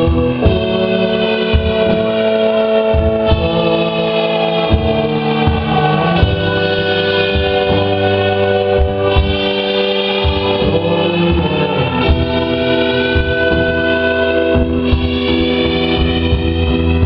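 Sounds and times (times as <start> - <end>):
bass and drums: 0.0 - 17.0
synthesizer and guitar chords: 0.0 - 17.0.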